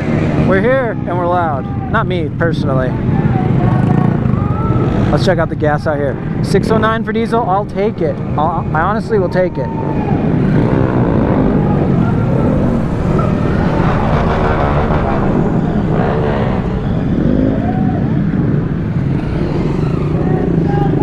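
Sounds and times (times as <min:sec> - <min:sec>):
traffic engine and road rumble: 0:00.0 - 0:21.0
vehicles passing: 0:00.0 - 0:21.0.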